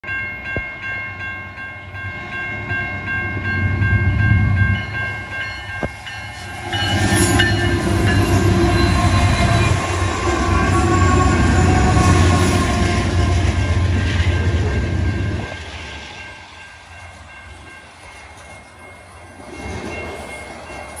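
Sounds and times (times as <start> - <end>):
crossing warning bell ringing: 0.0 - 21.0
diesel locomotives rumbling: 0.1 - 21.0
train wheel noise: 0.1 - 21.0.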